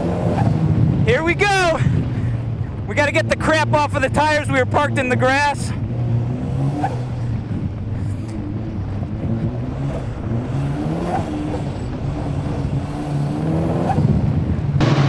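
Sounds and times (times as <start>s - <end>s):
car engine pulling at low revs: 0.0s - 15.0s.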